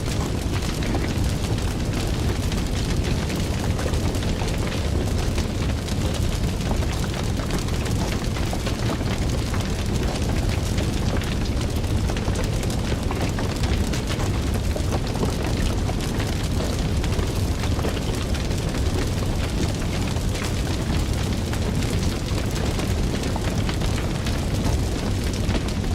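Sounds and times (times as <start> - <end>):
fire crackling and popping: 0.0 - 25.9.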